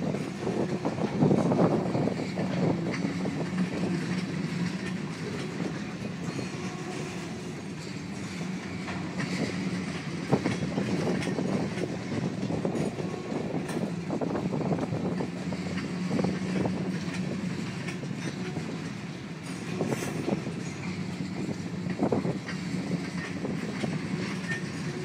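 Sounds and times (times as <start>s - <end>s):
freight cars rolling past: 0.0s - 25.0s
steel wheels clicking over rail joints: 0.0s - 25.0s.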